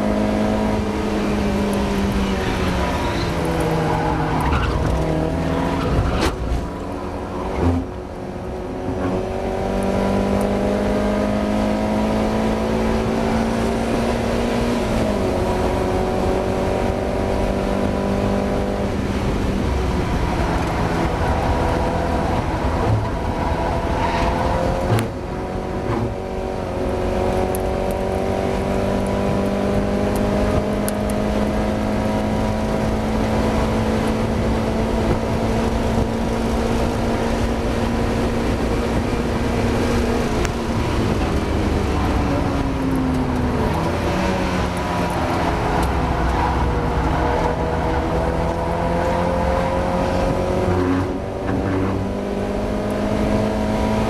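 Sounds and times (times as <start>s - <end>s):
car engine revving through gears: 0.0s - 54.0s.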